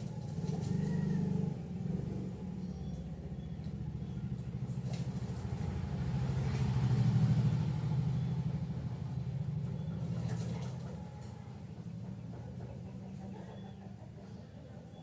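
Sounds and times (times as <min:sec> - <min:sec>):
engine pulsing rumble: 0:00.0 - 0:15.0.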